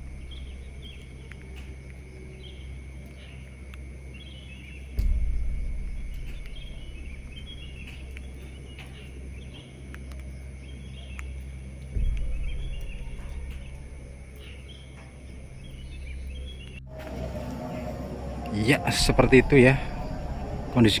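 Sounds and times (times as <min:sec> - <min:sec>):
low rumble: 0:00.0 - 0:21.0
small chirps of birds or insects: 0:00.0 - 0:21.0.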